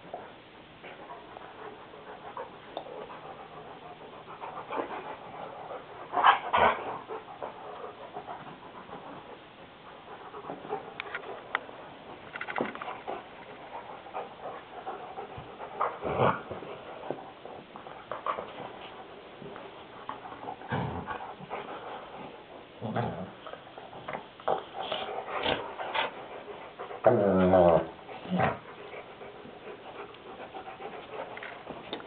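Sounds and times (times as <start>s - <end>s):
dog panting: 0.1s - 32.0s.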